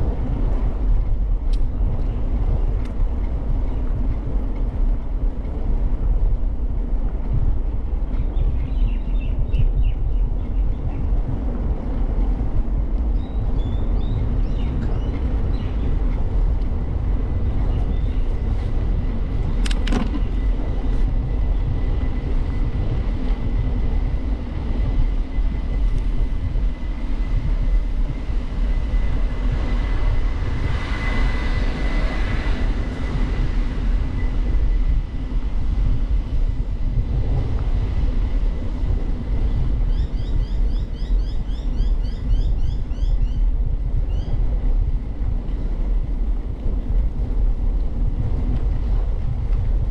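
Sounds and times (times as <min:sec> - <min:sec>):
bicycle rolling noise: 0:00.0 - 0:49.9
wind rumble: 0:00.0 - 0:49.9.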